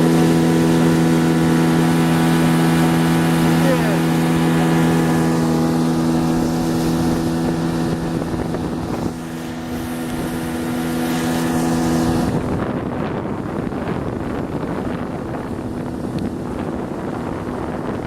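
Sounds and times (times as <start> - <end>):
outboard motor running: 0.0 - 18.0
water rushing: 0.0 - 18.0
wind on microphone: 0.0 - 18.0.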